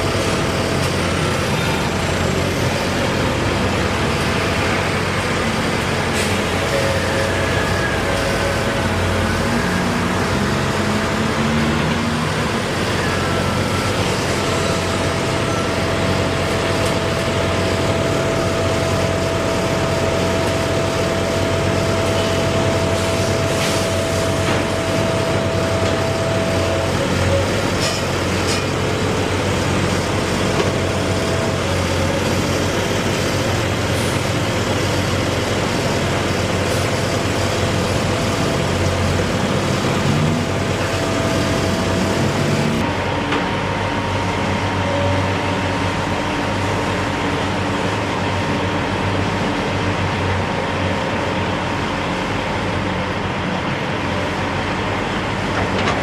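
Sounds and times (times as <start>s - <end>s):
road traffic with heavy vehicles: 0.0s - 56.0s.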